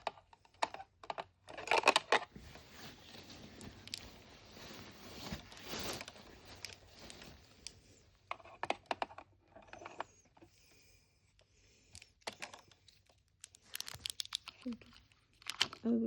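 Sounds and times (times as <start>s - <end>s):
plastic toys rustling: 0.0s - 10.5s, 11.4s - 16.0s.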